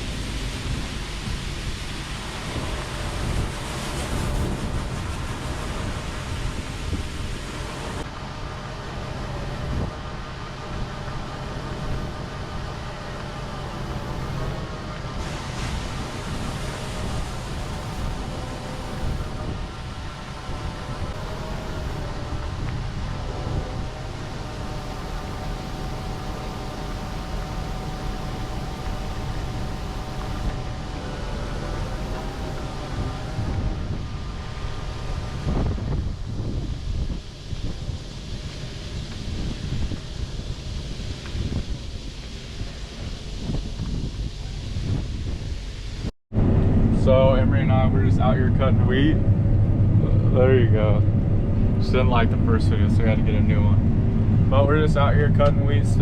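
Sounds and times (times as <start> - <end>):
faint steady whine: 0.0 - 56.0
heavy farm machinery rumbling: 0.0 - 56.0
wind noise on microphone: 0.0 - 56.0.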